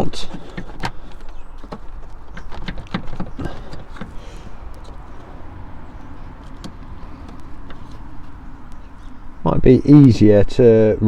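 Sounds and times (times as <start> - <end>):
plastic clicks and knocks: 0.0 - 9.3.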